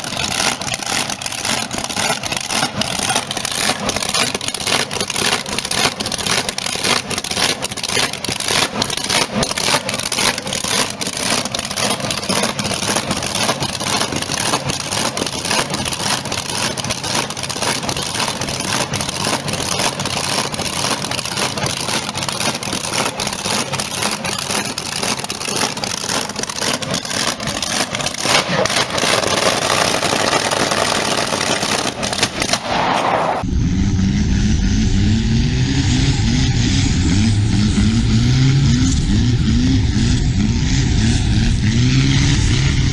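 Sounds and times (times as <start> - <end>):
boat engine running loud: 0.0 - 32.2, 33.5 - 42.9
engine drone: 0.0 - 42.9
exhaust crackle: 0.0 - 42.9.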